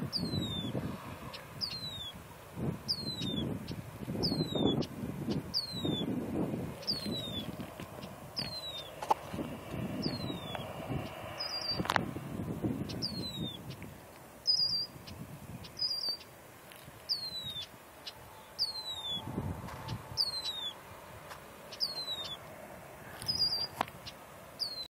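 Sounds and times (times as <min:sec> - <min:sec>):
bird chirping: 0:00.0 - 0:02.2, 0:02.8 - 0:06.2, 0:06.8 - 0:09.2, 0:10.0 - 0:11.9, 0:12.8 - 0:16.4, 0:17.0 - 0:20.8, 0:21.6 - 0:22.4, 0:23.1 - 0:24.9
jet airliner rumble: 0:00.0 - 0:16.2, 0:17.1 - 0:24.9.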